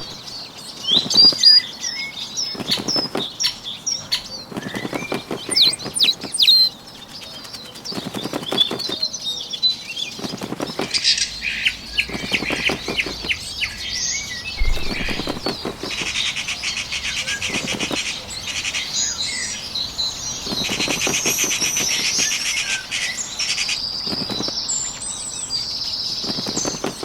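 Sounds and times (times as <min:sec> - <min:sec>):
flapping wings: 0:00.0 - 0:00.2, 0:00.9 - 0:09.2, 0:10.0 - 0:25.0, 0:26.0 - 0:27.0
small birds chirping and trilling: 0:00.0 - 0:27.0.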